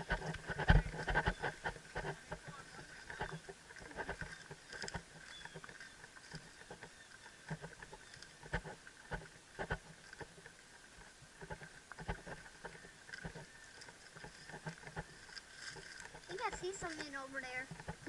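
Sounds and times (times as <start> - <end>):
horse steps: 0.0 - 18.0
rustling: 0.0 - 18.0.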